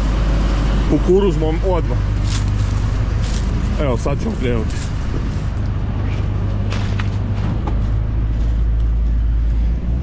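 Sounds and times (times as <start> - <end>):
combine harvester engine hum: 0.0 - 10.0.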